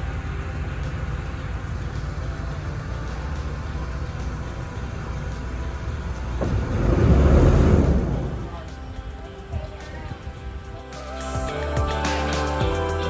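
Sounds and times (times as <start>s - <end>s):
boat engine running: 0.0s - 10.9s.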